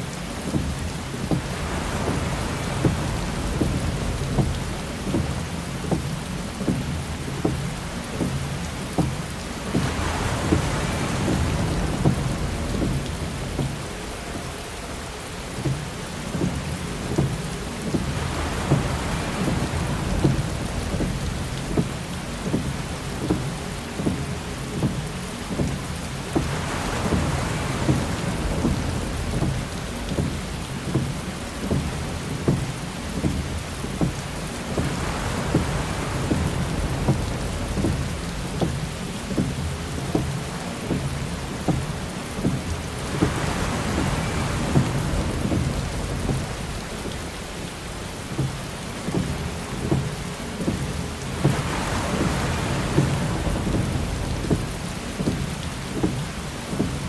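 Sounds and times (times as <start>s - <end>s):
heavy rain drumming on a car: 0.0s - 57.0s
windshield wipers sweeping and knocking: 0.1s - 57.0s.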